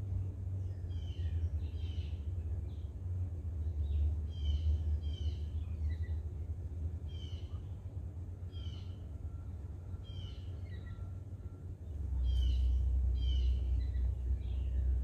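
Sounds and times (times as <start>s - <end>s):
songbird calling: 0.0s - 15.0s
steady low rumble: 0.0s - 15.0s.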